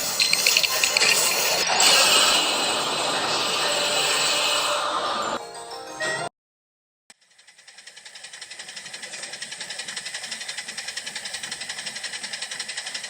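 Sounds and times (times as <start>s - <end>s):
rapid mechanical pulsing: 0.0s - 5.4s, 7.2s - 13.0s.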